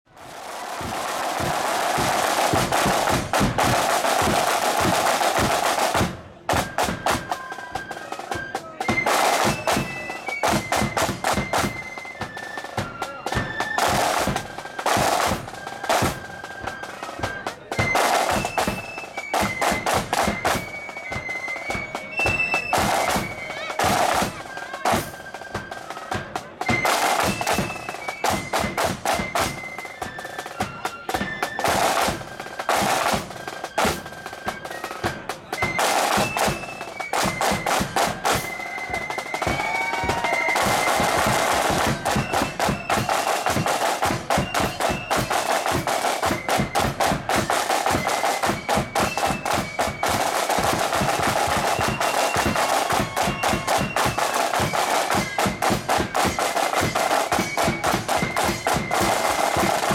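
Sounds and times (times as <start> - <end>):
flutes playing melody: 0.1 - 59.9
snare drum rolls: 0.1 - 59.9.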